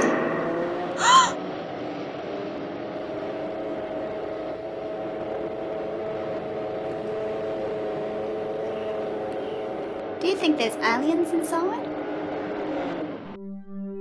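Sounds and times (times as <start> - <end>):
spaceship hum drone: 0.0 - 14.0.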